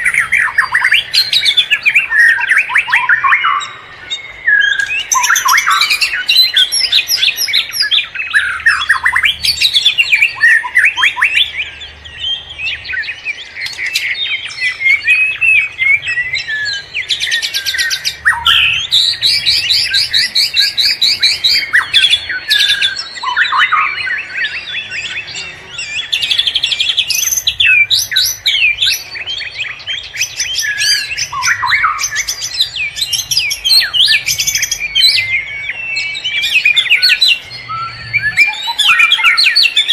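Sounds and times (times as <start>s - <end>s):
forest birds chorus: 0.0s - 39.9s.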